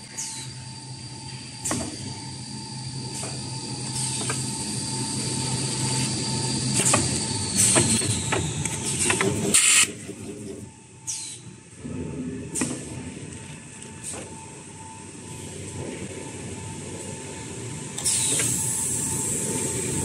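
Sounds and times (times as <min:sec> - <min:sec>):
machine humming with high whine: 0:00.0 - 0:20.0.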